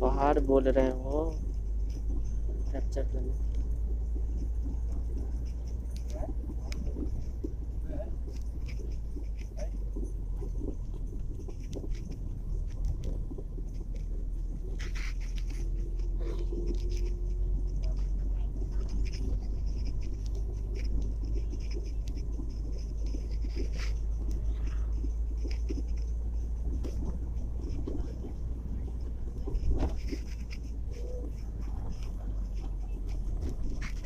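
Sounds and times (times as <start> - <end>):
small clicks and rattles: 0.0 - 34.0
vehicle driving rumble: 0.0 - 34.0.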